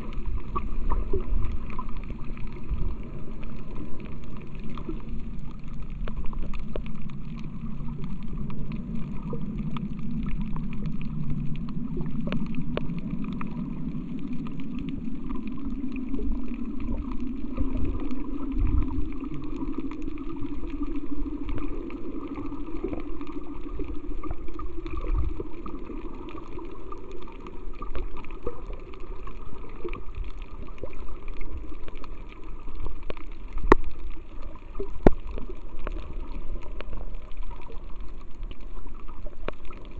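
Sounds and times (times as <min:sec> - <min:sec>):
low underwater hum: 0:00.0 - 0:39.9.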